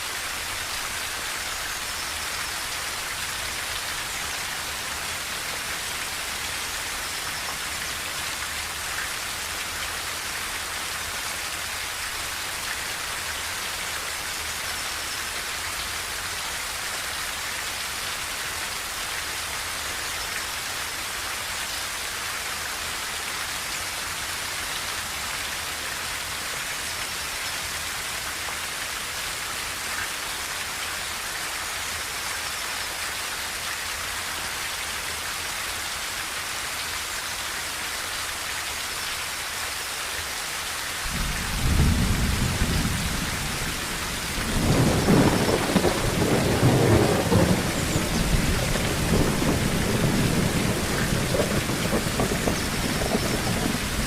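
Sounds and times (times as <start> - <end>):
rain on a tin roof: 0.0 - 54.0.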